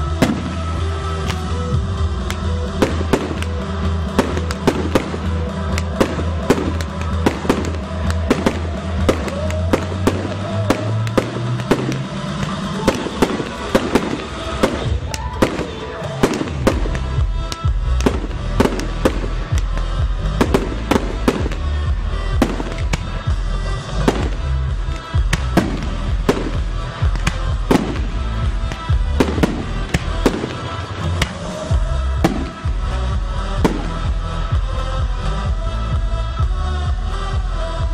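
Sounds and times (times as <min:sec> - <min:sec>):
music with heavy bass: 0:00.0 - 0:37.9.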